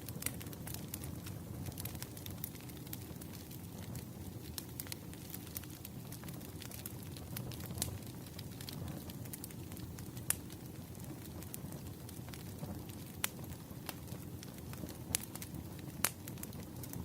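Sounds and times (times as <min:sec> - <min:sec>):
crackles and pops of burning logs: 0:00.0 - 0:17.0
low rumble of flames: 0:00.0 - 0:17.0.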